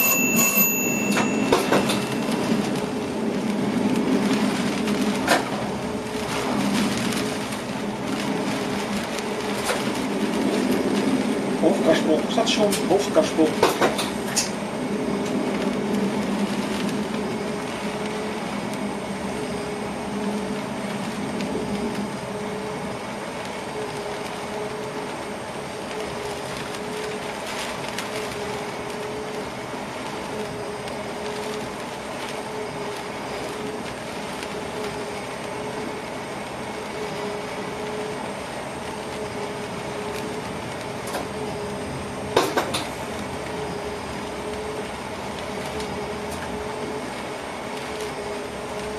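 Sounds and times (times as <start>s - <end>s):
steady hum: 0.0s - 48.9s
train running noise: 0.0s - 48.9s.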